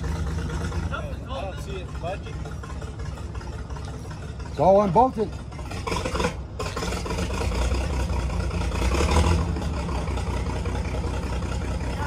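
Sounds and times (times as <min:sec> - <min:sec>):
crane engine droning: 0:00.0 - 0:12.0.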